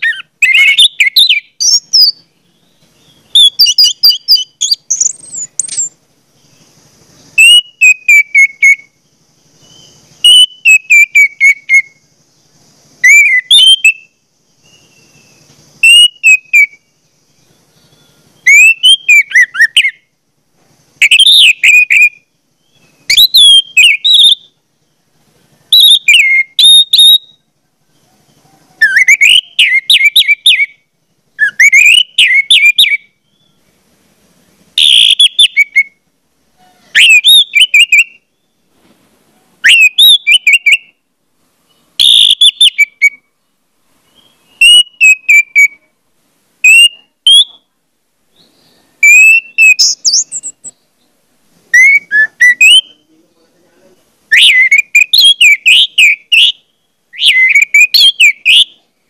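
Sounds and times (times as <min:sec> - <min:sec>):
bird singing: 0:00.0 - 0:46.0, 0:46.6 - 0:59.0.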